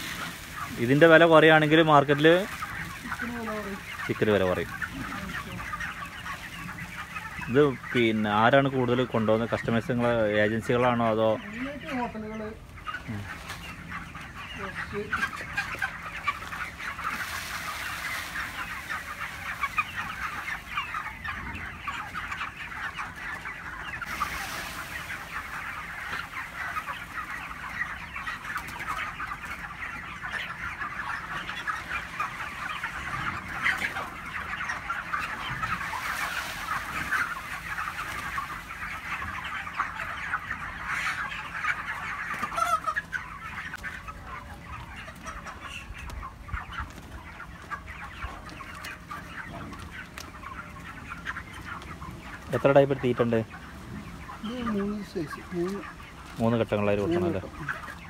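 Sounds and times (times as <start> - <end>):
chickens clucking and cheeping: 0.0 - 58.0.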